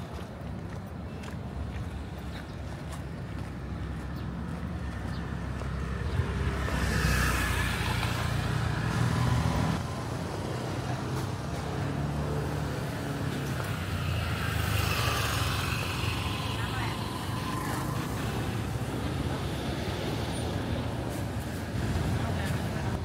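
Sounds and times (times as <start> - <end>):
motor vehicles passing: 0.0 - 23.0.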